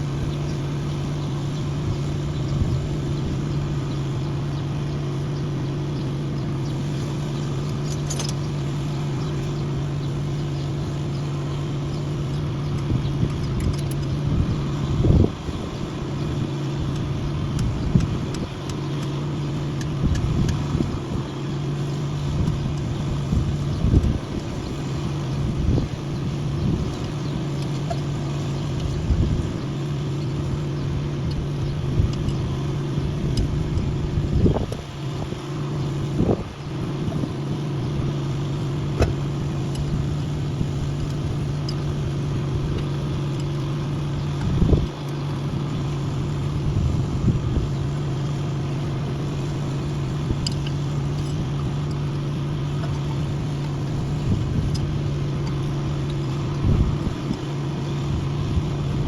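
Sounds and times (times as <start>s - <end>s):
engine humming: 0.0s - 59.0s.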